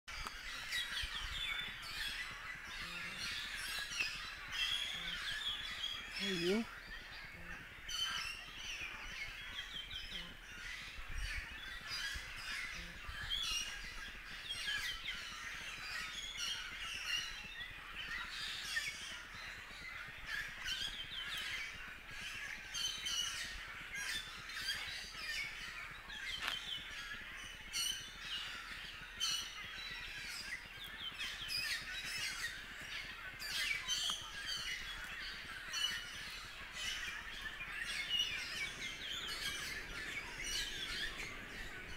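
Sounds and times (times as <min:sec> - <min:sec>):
birds chirping and calling: 0:00.1 - 0:41.9.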